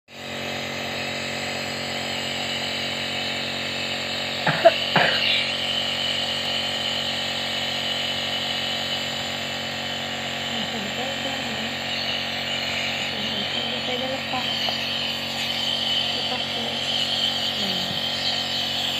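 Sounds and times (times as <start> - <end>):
nebulizer compressor humming: 0.1 - 18.9.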